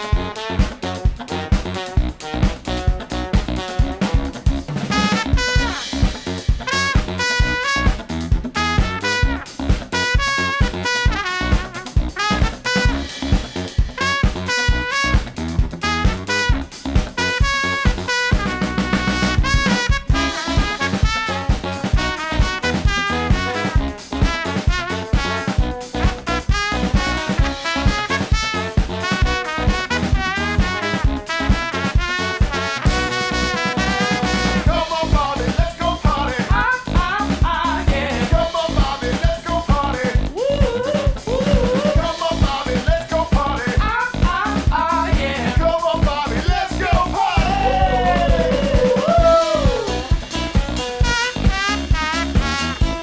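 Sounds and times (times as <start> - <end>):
brass band playing: 0.0 - 53.0
drum kit beat: 0.0 - 53.0.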